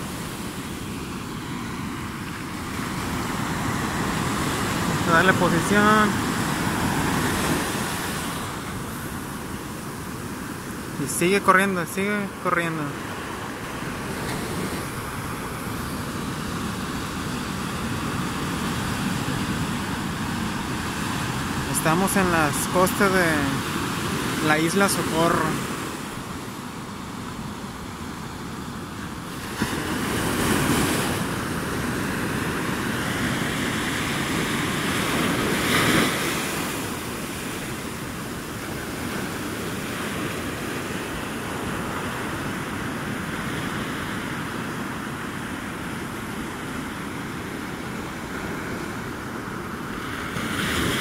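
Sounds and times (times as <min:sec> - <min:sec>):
ocean surf breaking on beach: 0:00.0 - 0:51.0.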